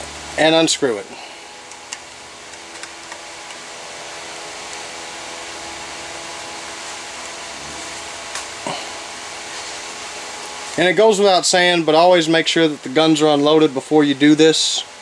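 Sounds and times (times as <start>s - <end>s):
faint hum: 0.0s - 15.0s
steady whirring hiss: 0.0s - 15.0s.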